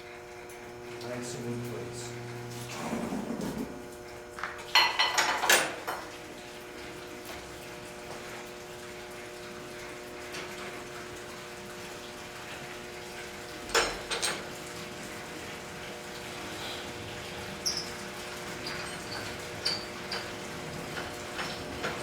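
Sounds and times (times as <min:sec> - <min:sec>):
machinery hum with hiss: 0:00.0 - 0:06.9, 0:11.0 - 0:22.0.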